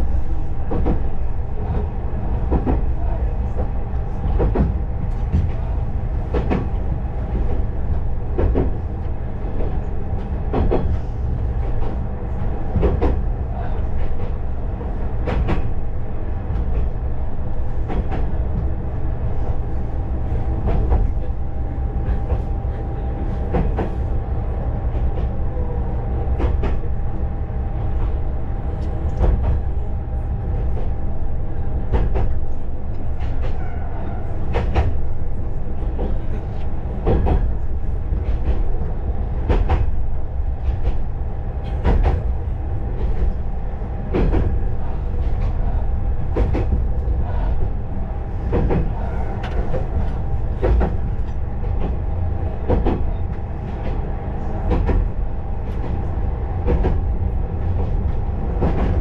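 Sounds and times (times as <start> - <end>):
railcar engine drone: 0.0 - 59.0.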